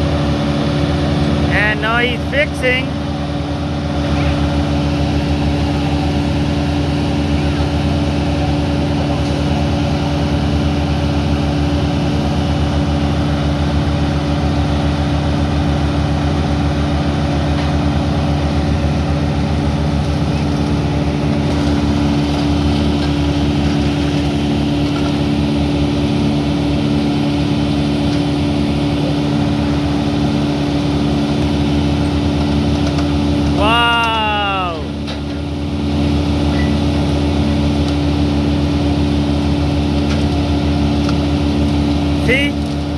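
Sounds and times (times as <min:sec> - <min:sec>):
wood chipper engine running: 0:00.0 - 0:42.9.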